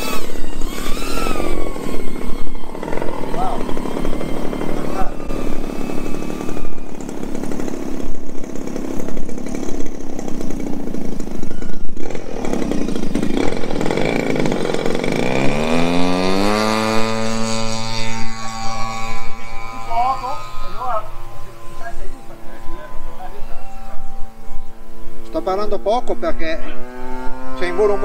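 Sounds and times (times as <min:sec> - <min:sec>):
quadcopter motors buzzing: 0:00.0 - 0:28.0.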